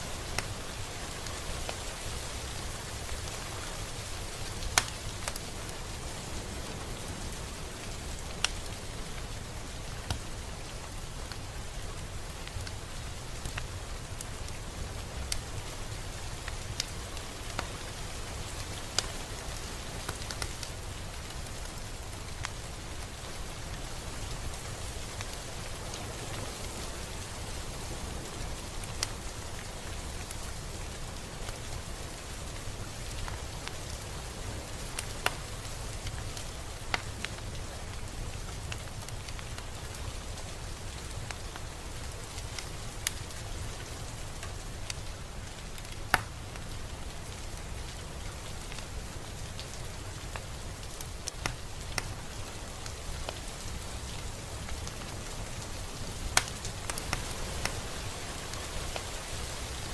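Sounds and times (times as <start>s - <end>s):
raindrops tapping close by: 0.0s - 59.9s
steady rain hiss: 0.0s - 59.9s.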